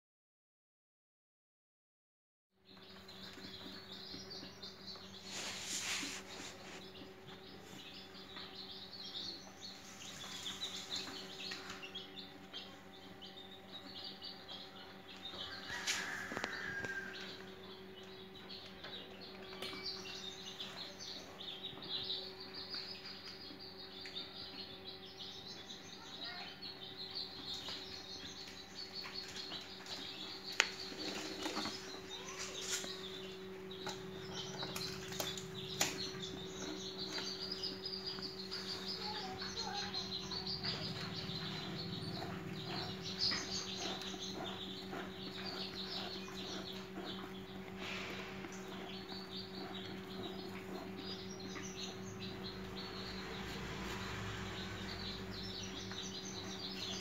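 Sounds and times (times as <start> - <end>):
small birds chirping: 2.6 - 57.0
steady low hum: 2.7 - 57.0.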